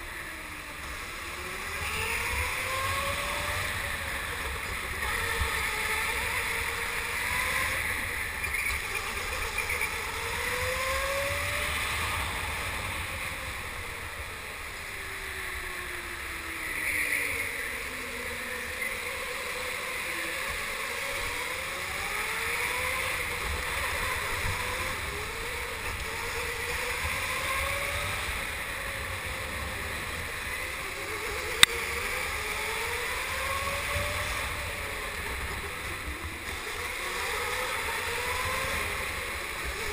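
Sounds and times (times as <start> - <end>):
go-kart motor: 0.0 - 39.9.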